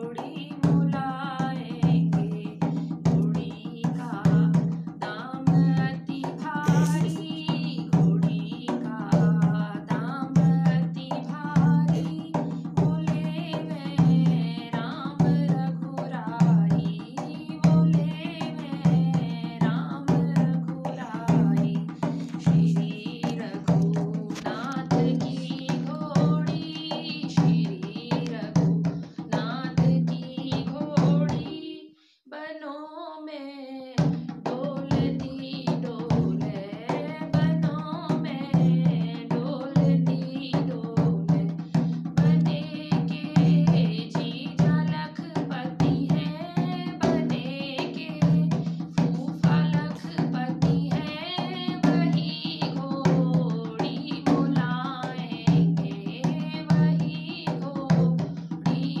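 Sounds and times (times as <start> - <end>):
woman singing a folk song: 0.0 - 59.0
steady drum beat: 1.8 - 31.6, 34.0 - 47.5, 48.2 - 53.6, 54.2 - 59.0.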